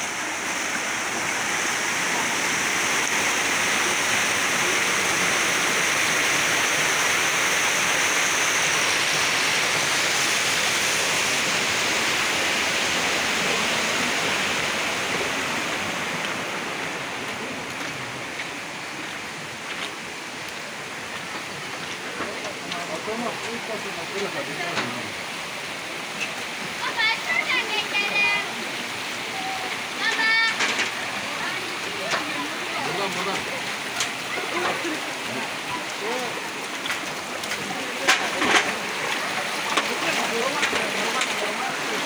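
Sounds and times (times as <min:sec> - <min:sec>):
stream rushing over rocks: 0:00.0 - 0:42.0.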